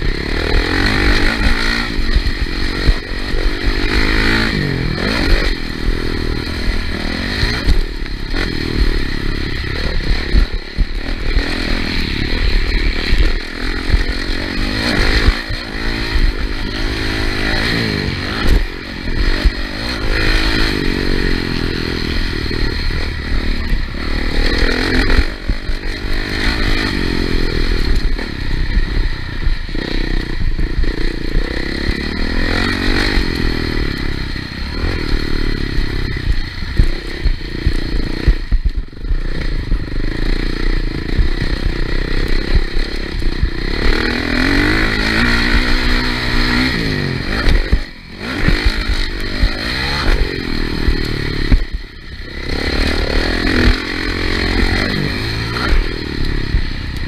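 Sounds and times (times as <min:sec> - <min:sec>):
low wind rumble: 0:00.0 - 0:53.6
knocks and rattles from rough track: 0:00.0 - 0:57.0
motocross engine revving: 0:00.0 - 0:57.0.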